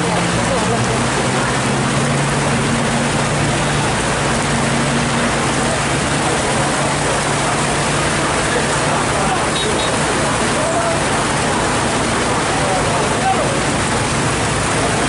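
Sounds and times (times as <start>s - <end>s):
car and truck engines humming: 0.0s - 15.0s
heavy rain: 0.0s - 15.0s
water running over road: 0.0s - 15.0s.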